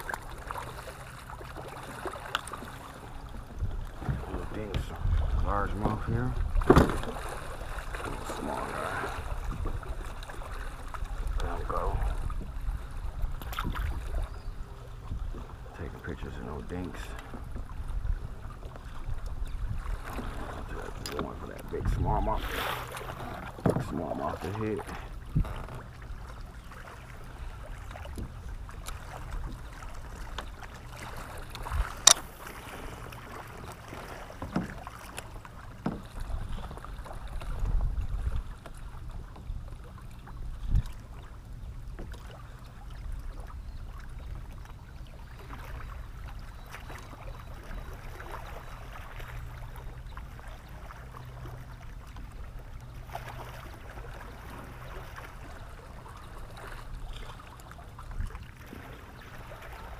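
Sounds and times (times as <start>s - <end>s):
water sloshing against kayak hull: 0.0s - 59.9s.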